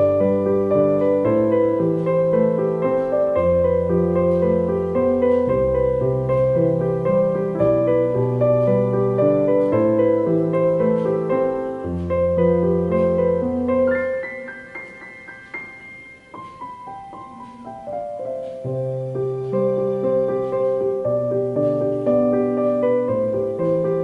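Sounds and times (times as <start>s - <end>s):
soft slow piano music: 0.0s - 24.0s.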